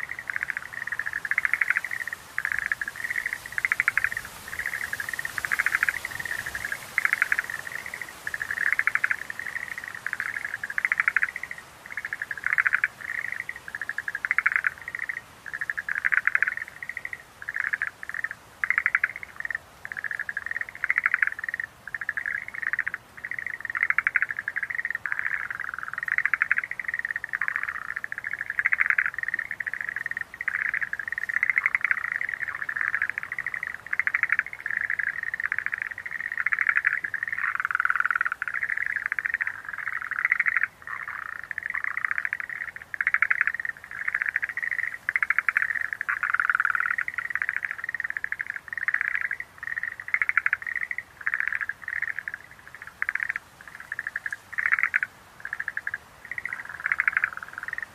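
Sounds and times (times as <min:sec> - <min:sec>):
tree frogs calling in chorus: 0:00.0 - 0:57.9.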